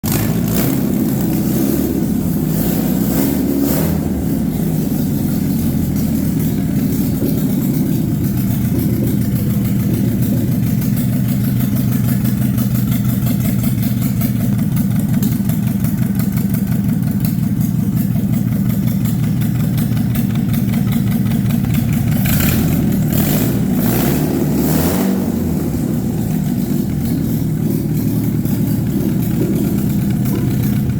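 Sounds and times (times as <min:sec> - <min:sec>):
car engine running: 0:00.0 - 0:30.9.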